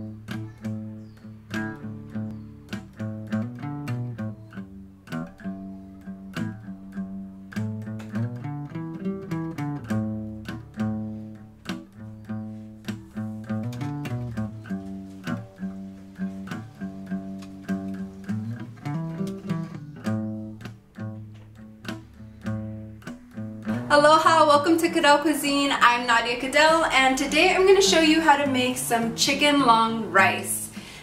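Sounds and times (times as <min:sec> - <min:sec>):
held bass notes: 0:00.0 - 0:31.0
plucked string instrument: 0:00.0 - 0:31.0.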